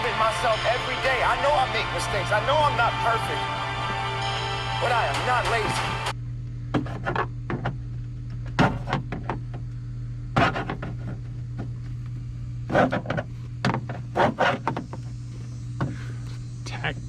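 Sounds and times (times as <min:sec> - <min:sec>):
low hum: 0:00.0 - 0:14.2.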